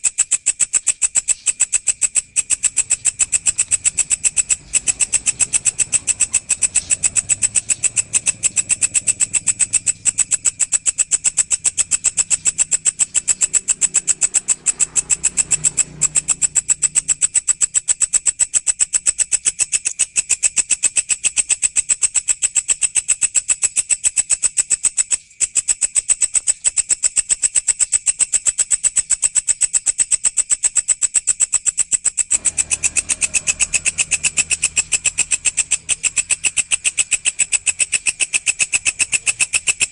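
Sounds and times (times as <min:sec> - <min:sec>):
grasshopper stridulating: 0:00.0 - 0:39.9.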